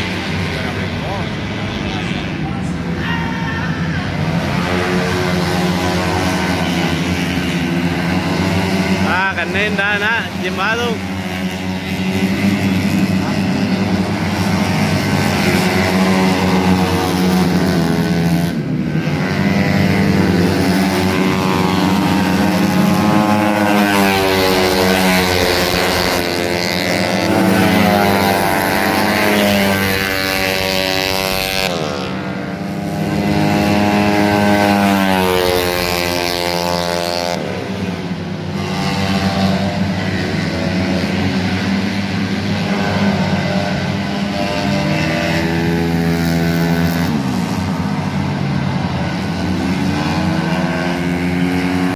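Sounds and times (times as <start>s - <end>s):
scooter engine revving: 3.8s - 51.9s.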